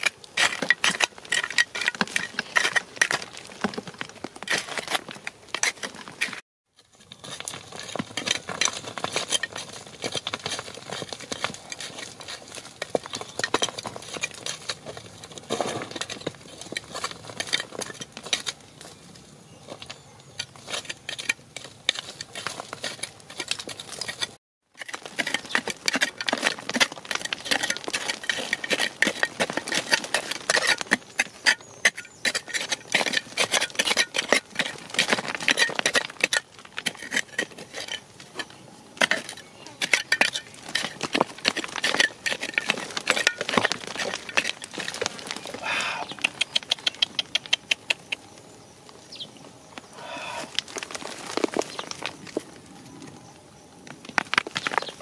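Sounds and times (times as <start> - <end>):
small stones clattering: 0.0 - 19.0, 19.7 - 48.4, 49.6 - 55.0
tool blade scraping dirt: 0.0 - 48.2.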